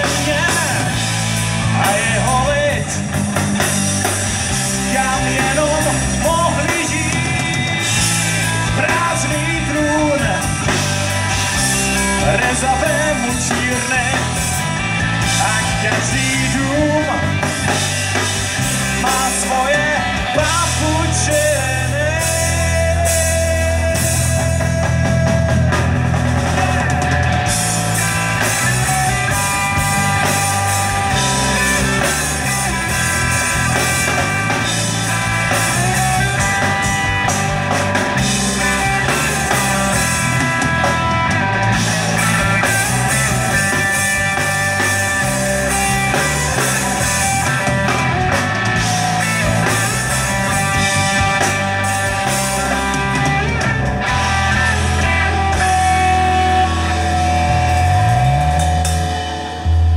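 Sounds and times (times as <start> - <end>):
drum kit: 0.0 - 59.9
electric bass: 0.0 - 59.9
electric guitars: 0.0 - 59.9.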